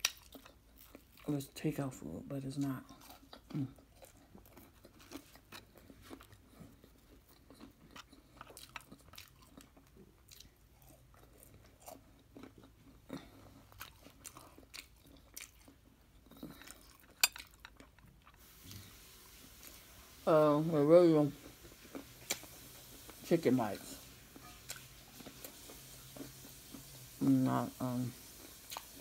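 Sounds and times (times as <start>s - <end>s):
chewing crispy food: 0.0s - 29.0s.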